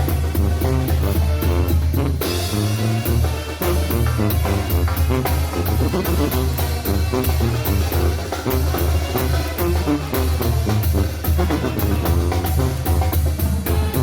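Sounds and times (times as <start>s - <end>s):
bass drum and snare beat: 0.0s - 14.0s
brass band playing: 0.0s - 14.0s.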